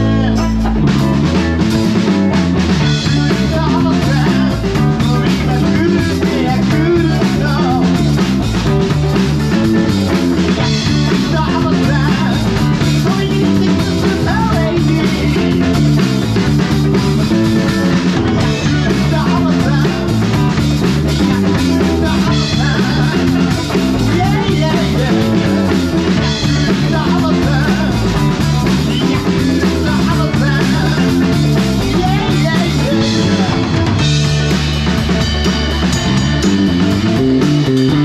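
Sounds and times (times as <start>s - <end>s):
bass line: 0.0s - 38.0s
distorted electric guitar: 0.0s - 38.0s
drum kit: 0.0s - 38.0s
wavering lead guitar line: 0.0s - 38.0s.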